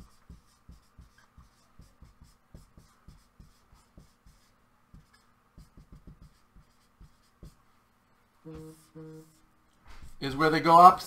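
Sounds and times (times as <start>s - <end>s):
marker writing on a whiteboard: 0.0s - 7.6s, 8.5s - 10.2s.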